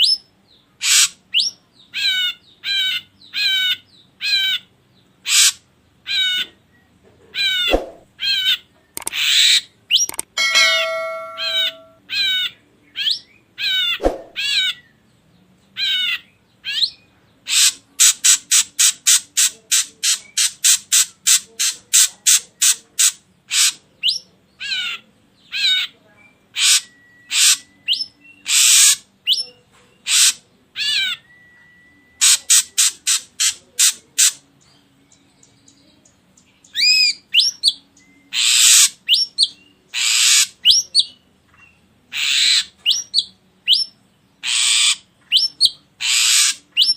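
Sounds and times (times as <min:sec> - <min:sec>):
bird harsh raspy calls: 0:00.0 - 0:06.6, 0:07.3 - 0:14.9, 0:15.8 - 0:25.9, 0:26.5 - 0:29.4, 0:30.0 - 0:31.2, 0:32.2 - 0:34.4, 0:36.8 - 0:41.2, 0:42.1 - 0:46.9.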